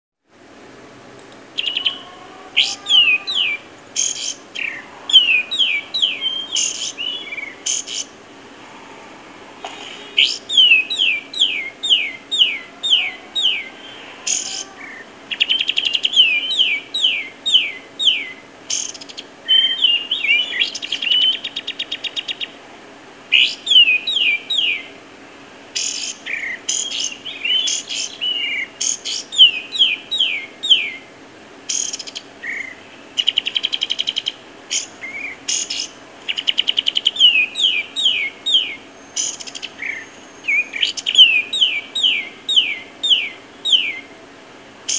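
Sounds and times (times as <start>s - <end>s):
bird singing: 1.5s - 44.9s.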